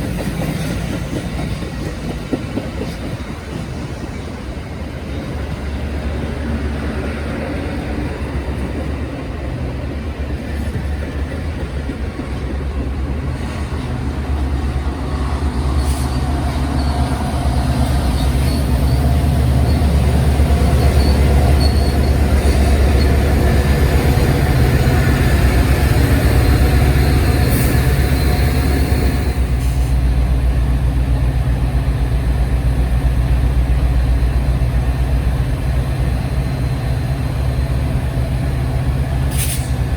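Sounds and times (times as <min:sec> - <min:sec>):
rail car noise: 0:00.0 - 0:39.9
train engine drone: 0:00.0 - 0:39.9.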